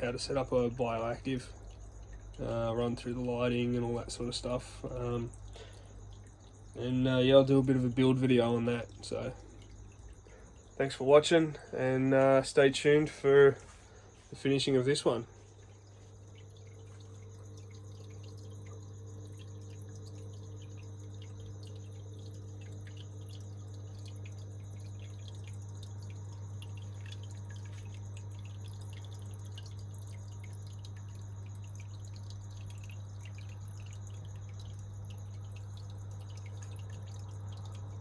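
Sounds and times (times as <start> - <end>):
pump humming: 0.0 - 38.0
water trickling and dripping: 0.0 - 38.0.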